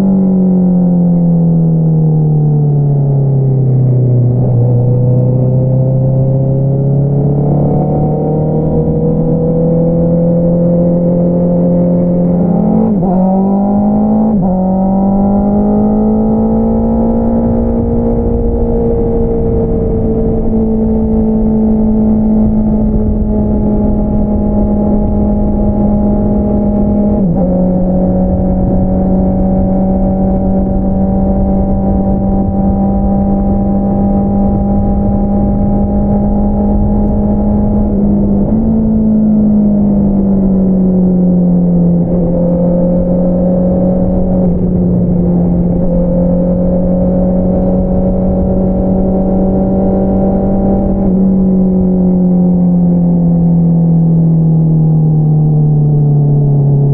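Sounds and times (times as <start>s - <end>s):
motorcycle engine running: 2.7s - 56.9s.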